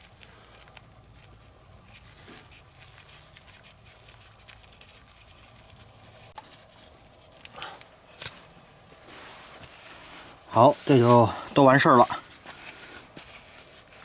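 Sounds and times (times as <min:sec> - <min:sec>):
short rustle: 0:00.0 - 0:14.0.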